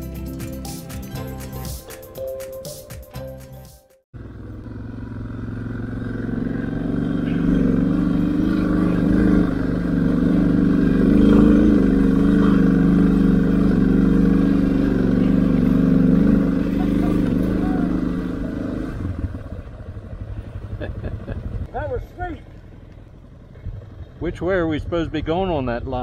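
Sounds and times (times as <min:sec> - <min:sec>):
motorcycle engine under load: 0:04.1 - 0:26.0.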